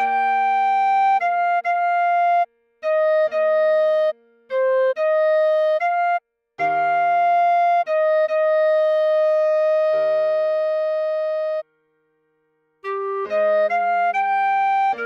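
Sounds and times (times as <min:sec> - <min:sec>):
clarinet melody: 0:00.0 - 0:11.7, 0:12.8 - 0:15.0.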